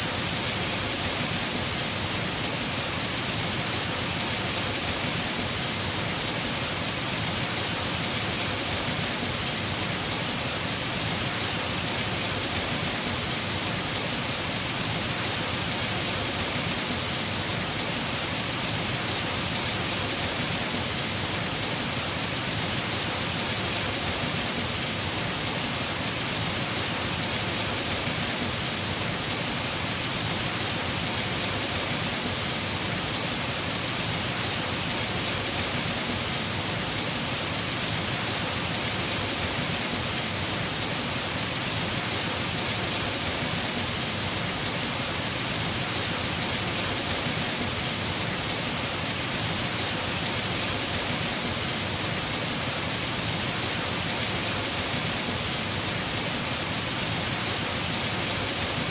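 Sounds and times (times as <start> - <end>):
heavy rain on a roof: 0.0 - 58.9.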